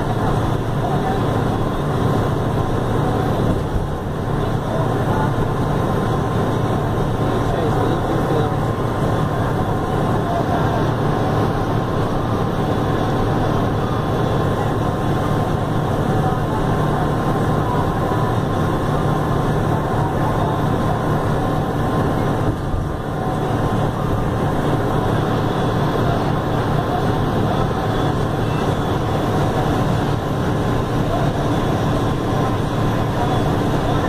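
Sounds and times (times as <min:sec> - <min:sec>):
bus diesel engine drone: 0:00.0 - 0:34.0
road and tyre noise: 0:00.0 - 0:34.0.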